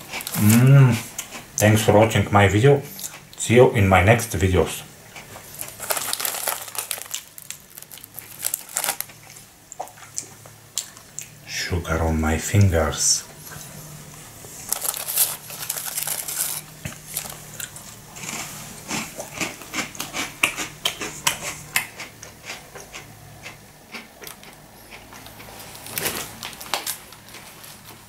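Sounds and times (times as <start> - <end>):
biscuits crunching while chewed: 0.0 - 1.8, 5.1 - 11.4, 13.4 - 28.0.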